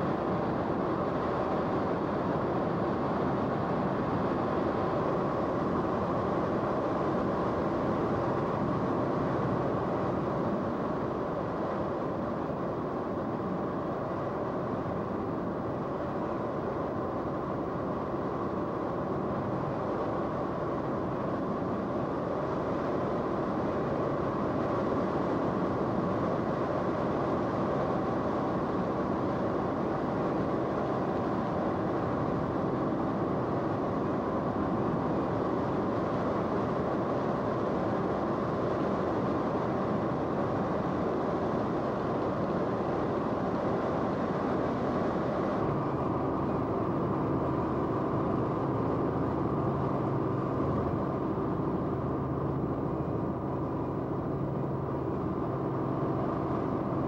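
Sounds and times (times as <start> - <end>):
faint steady whining tones: 0.0 - 57.0.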